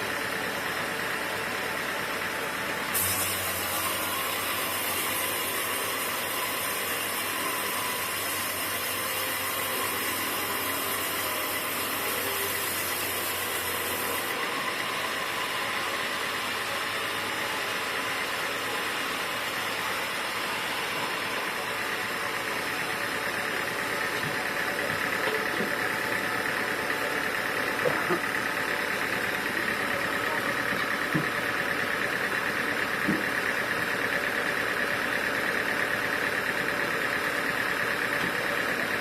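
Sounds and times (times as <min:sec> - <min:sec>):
sawmill machinery din: 0:00.0 - 0:39.0.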